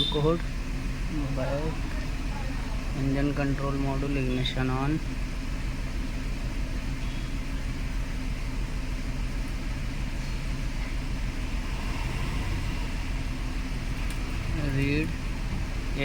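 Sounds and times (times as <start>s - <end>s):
misfiring car engine idling: 0.0s - 16.0s.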